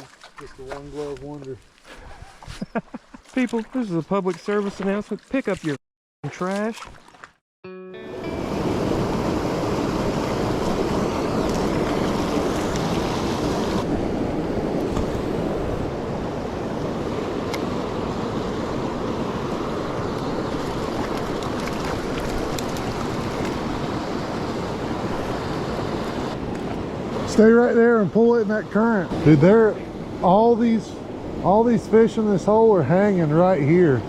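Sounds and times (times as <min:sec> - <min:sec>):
flowing creek water: 0:00.0 - 0:07.4, 0:08.2 - 0:34.0.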